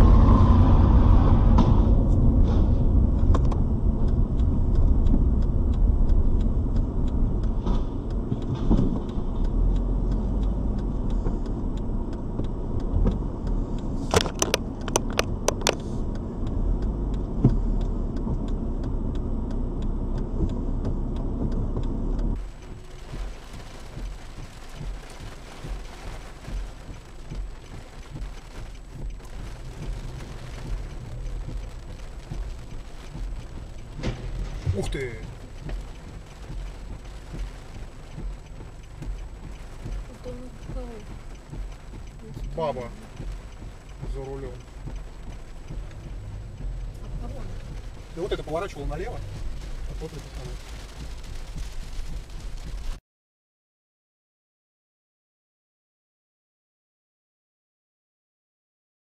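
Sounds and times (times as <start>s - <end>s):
rain on car: 0.0s - 53.0s
road and engine rumble: 0.0s - 53.0s
sharp clicks: 3.2s - 52.1s.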